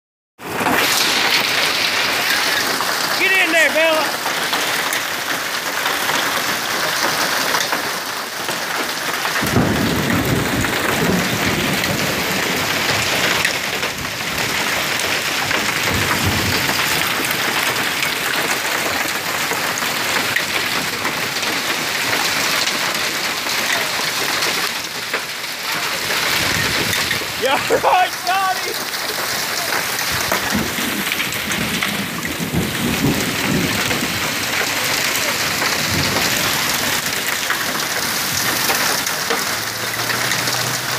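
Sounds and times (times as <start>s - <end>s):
hail and heavy rain pelting: 0.4s - 40.9s.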